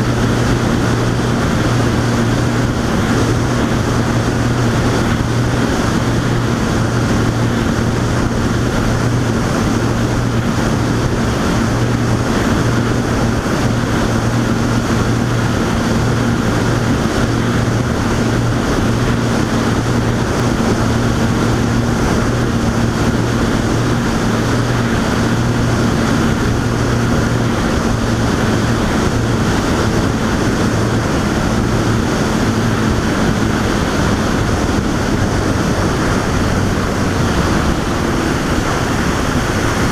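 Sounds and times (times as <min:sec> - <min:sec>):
boat engine humming: 0:00.0 - 0:39.9
wind and water rushing: 0:00.0 - 0:39.9.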